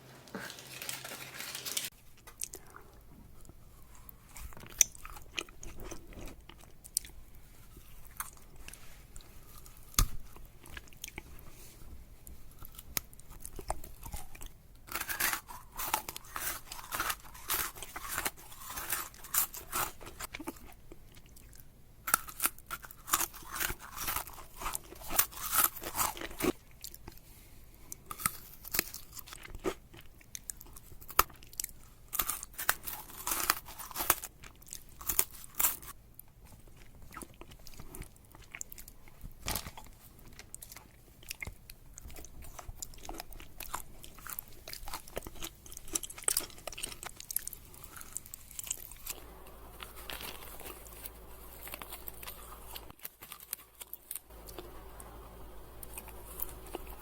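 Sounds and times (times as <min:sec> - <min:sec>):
chewing crunchy candy: 0:00.3 - 0:57.0.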